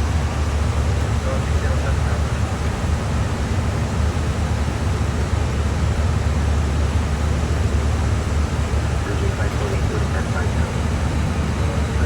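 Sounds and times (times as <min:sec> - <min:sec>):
aircraft cabin rushing and rumble: 0:00.0 - 0:12.0.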